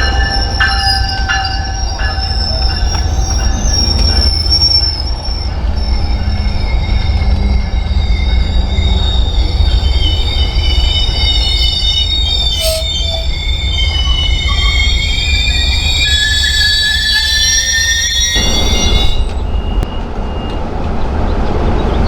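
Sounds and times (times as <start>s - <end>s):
train wheels squealing: 0.0s - 20.8s
train rumble: 0.0s - 22.0s.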